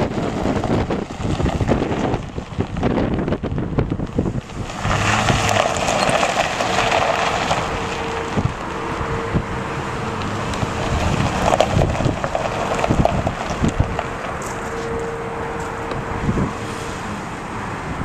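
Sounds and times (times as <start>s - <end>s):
pickup truck engine running: 0.0s - 16.5s
tyres on gravel: 0.0s - 17.3s
wind buffeting microphone: 0.0s - 18.0s.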